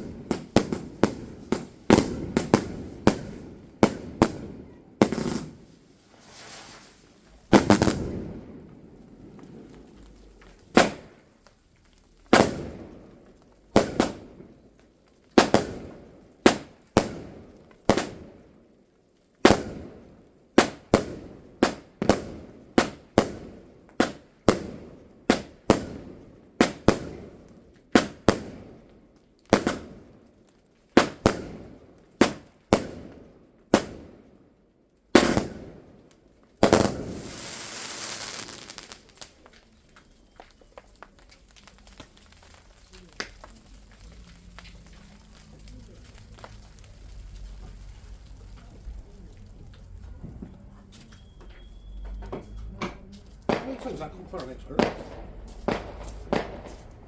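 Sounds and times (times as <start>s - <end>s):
fireworks bangs: 0.0s - 11.4s, 12.1s - 18.6s, 19.4s - 28.9s, 29.5s - 30.2s, 31.0s - 34.3s, 35.1s - 57.0s
fireworks hissing crackle: 0.0s - 34.2s, 35.0s - 57.0s.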